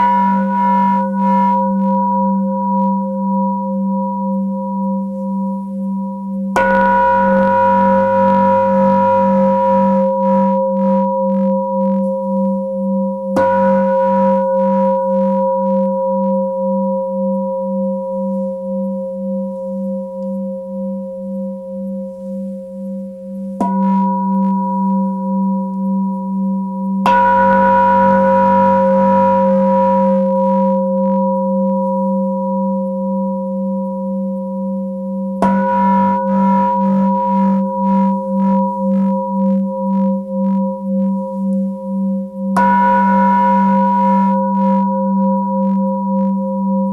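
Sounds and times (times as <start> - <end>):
singing bowl ringing: 0.0 - 46.9.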